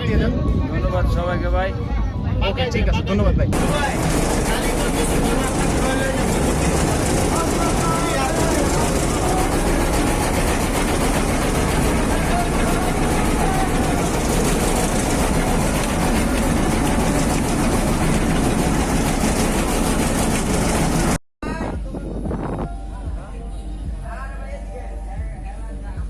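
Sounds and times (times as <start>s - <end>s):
faint voices: 0.0s - 26.0s
boat engine running: 2.4s - 23.4s.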